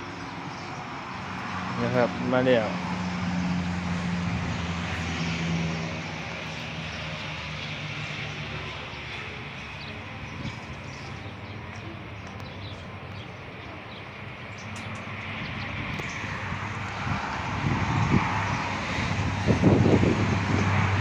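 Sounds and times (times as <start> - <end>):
passing vehicle engine hum: 0.0 - 21.0
road traffic noise: 0.0 - 21.0.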